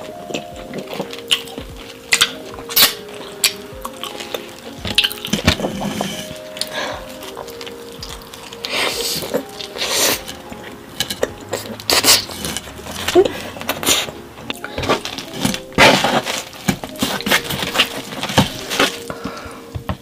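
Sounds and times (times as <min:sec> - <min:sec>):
chewing pizza: 0:00.0 - 0:20.0
crackles and clicks: 0:00.0 - 0:20.0
faint music: 0:00.0 - 0:20.0.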